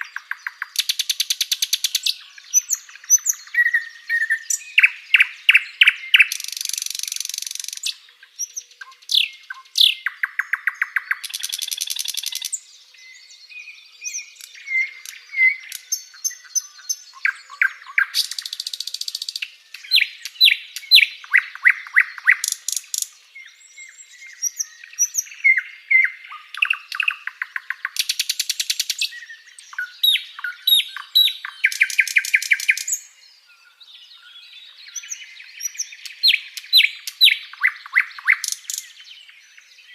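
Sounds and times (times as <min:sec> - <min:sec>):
flycatcher chirps and whistles: 0:00.0 - 0:33.2, 0:34.7 - 0:39.9.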